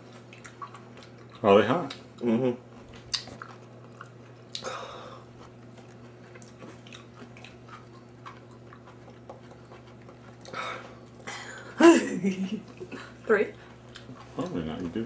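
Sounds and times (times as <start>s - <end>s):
wet chewing: 0.0s - 11.7s, 12.6s - 14.7s.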